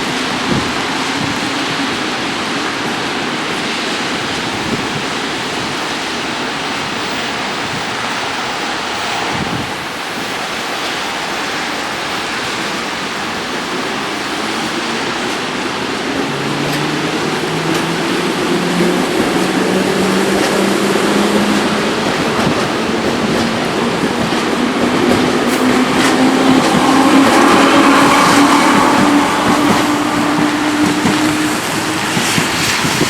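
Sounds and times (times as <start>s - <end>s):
heavy rain hissing: 0.0s - 33.0s
low train hum: 0.0s - 33.0s.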